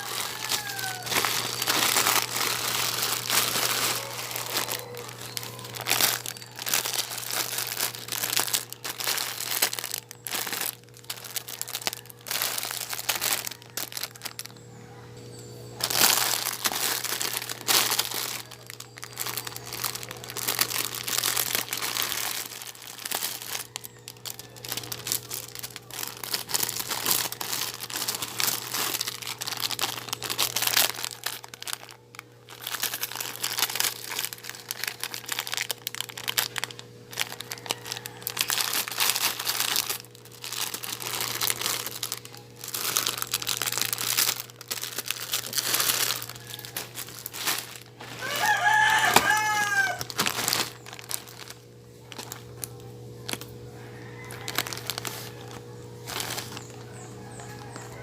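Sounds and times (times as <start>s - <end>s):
packaging crinkling and rustling: 0.0s - 15.0s, 15.7s - 58.0s.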